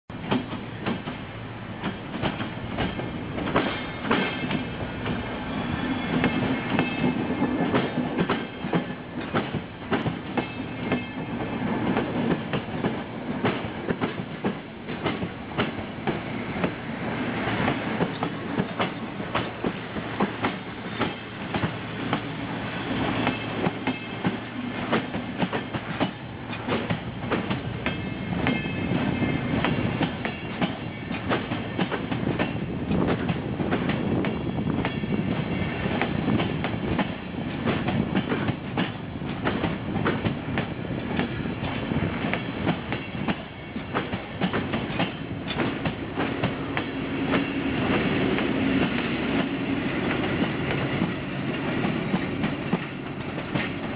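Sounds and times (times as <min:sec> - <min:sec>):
diesel locomotive engine hum: 0:00.1 - 0:53.9
train wheels clicking over rail joints: 0:00.2 - 0:16.8, 0:17.4 - 0:53.9.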